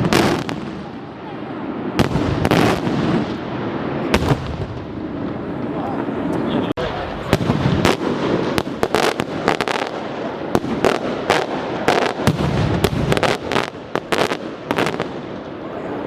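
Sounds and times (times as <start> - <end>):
crackling rumble: 0.0 - 16.0
fireworks bangs: 0.0 - 16.0.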